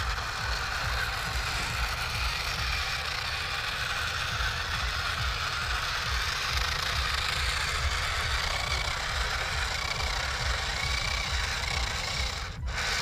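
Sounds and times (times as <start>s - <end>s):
low rumble: 0.0s - 13.0s
small electric motors whirring: 0.0s - 13.0s.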